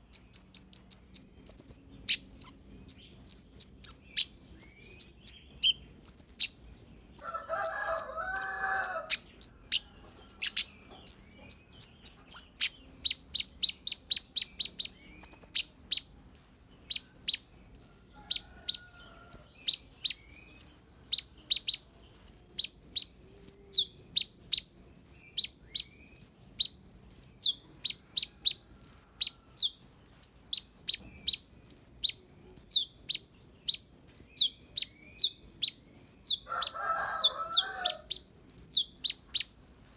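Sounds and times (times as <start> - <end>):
lower bird warbling: 0.0 - 39.9
songbird chirping: 0.0 - 39.9.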